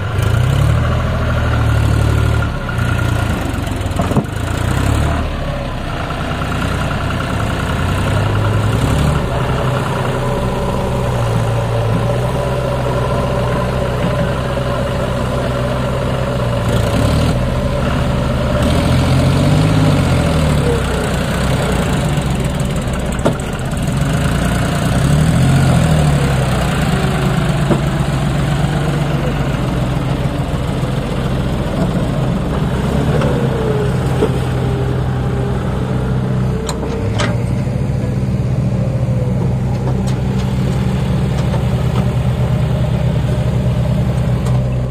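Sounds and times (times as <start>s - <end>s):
tractor diesel engine revving: 0.0s - 44.9s.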